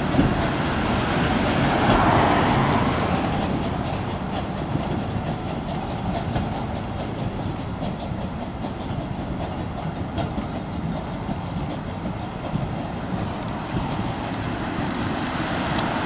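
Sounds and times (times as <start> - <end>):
train wagons rumbling: 0.0 - 16.0
wheels clicking on rails: 0.0 - 16.0.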